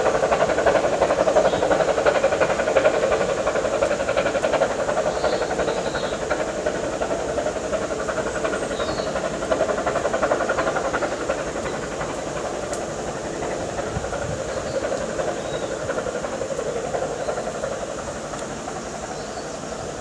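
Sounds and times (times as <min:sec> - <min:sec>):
steam hissing: 0:00.0 - 0:20.0
steam locomotive beat: 0:00.0 - 0:20.0.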